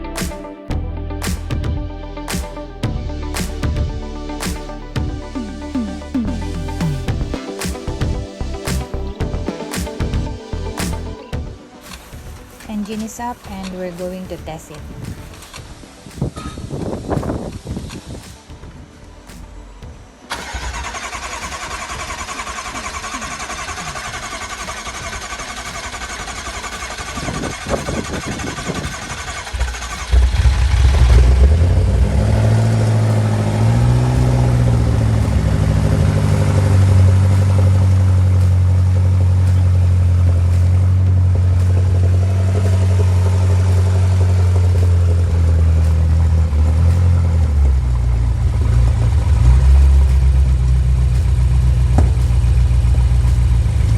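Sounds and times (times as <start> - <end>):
car engine starting and idling: 0.0 - 14.0, 19.1 - 53.9.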